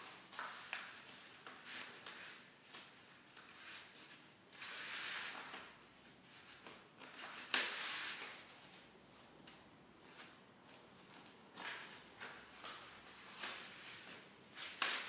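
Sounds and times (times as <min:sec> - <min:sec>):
paper strips rustling and sliding: 0:00.3 - 0:08.8, 0:11.1 - 0:15.0.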